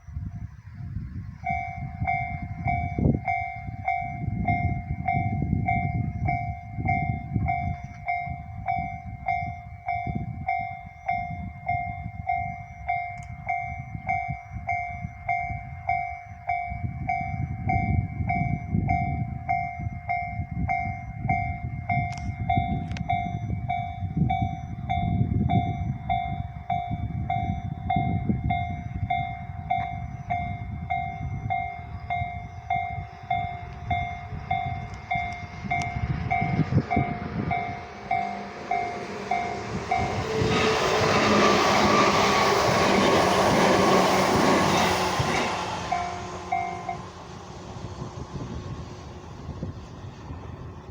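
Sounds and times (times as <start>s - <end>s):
train rumbling over crossing: 0.0s - 50.9s
level-crossing warning bell: 1.2s - 48.7s.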